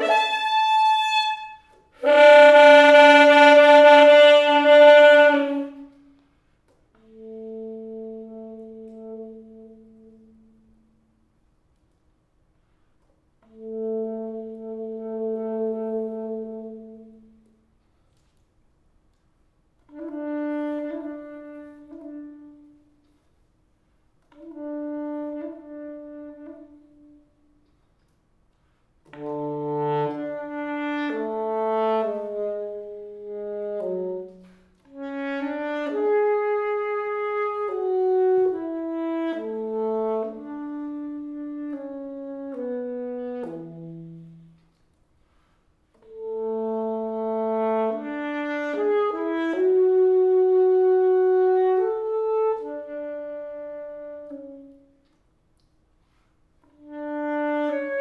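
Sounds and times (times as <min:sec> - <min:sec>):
solo saxophone melody: 0:00.0 - 0:11.2, 0:13.4 - 0:18.4, 0:19.8 - 0:23.4, 0:24.2 - 0:27.8, 0:29.0 - 0:58.0.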